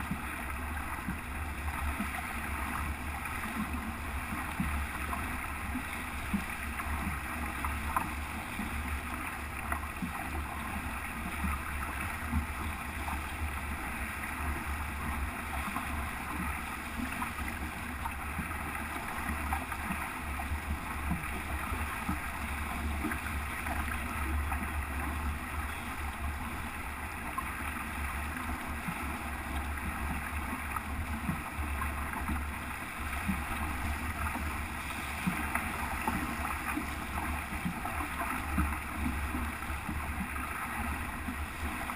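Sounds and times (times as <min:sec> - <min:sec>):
water rushing along hull: 0:00.0 - 0:41.9.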